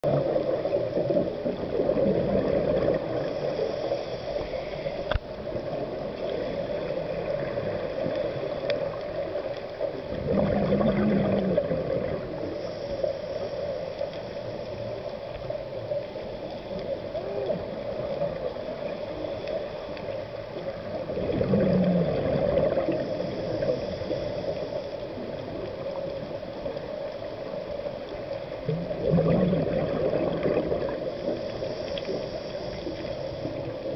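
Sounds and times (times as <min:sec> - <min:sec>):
steady watery hiss: 0:00.0 - 0:33.9
underwater exhaust bubbles gurgling: 0:00.0 - 0:33.9.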